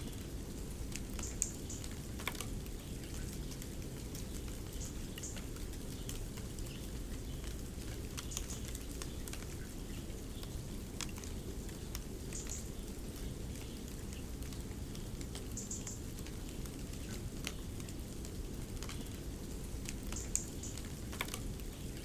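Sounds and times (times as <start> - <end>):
faint crackles and ticks: 0.0 - 22.0.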